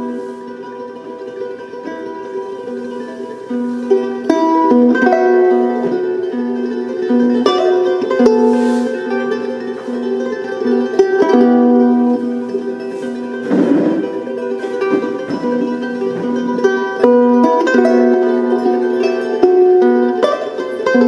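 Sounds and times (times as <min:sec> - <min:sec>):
instrumental music: 0:00.0 - 0:21.0.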